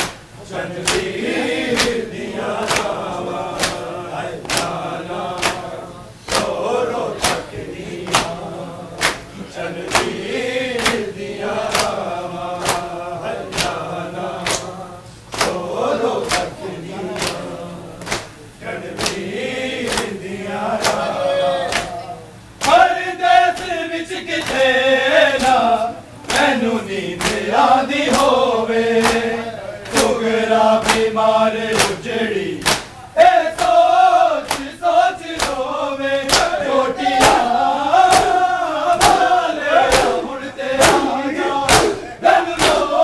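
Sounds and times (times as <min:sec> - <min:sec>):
men chanting together: 0:00.0 - 0:43.0.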